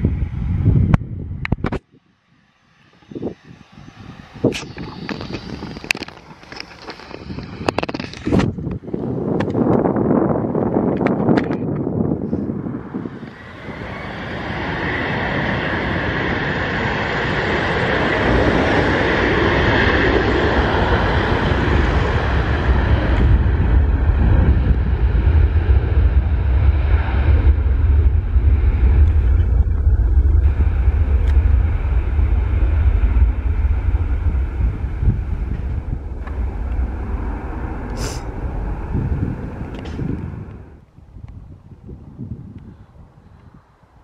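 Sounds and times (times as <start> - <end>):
jet engines at takeoff power: 0.0 - 44.0.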